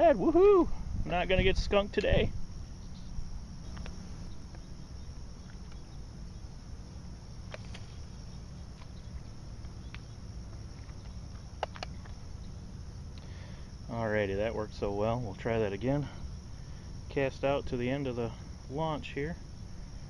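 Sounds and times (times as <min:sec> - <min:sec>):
insects chirring: 0:00.0 - 0:20.0
low steady rumble: 0:00.0 - 0:20.0.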